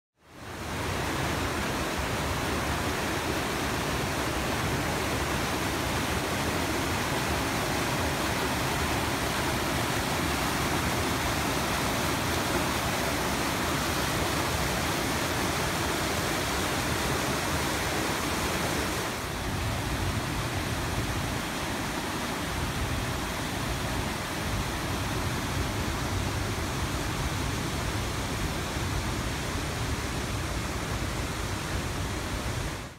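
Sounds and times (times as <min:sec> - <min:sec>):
water rushing over boulders: 0:00.3 - 0:32.9.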